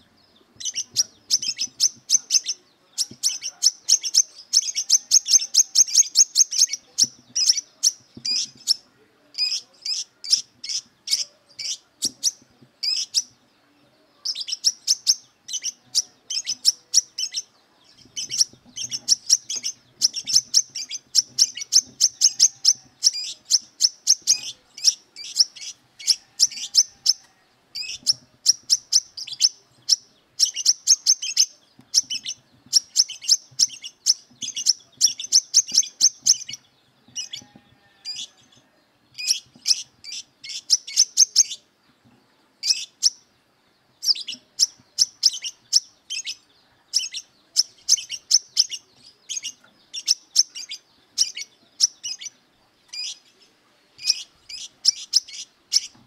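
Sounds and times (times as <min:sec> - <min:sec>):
bird singing chattering song: 0:00.0 - 0:56.0.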